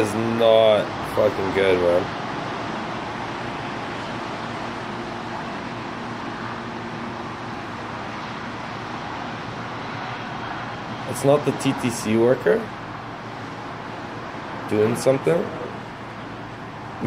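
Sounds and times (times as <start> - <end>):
distant road traffic: 0.0 - 17.0.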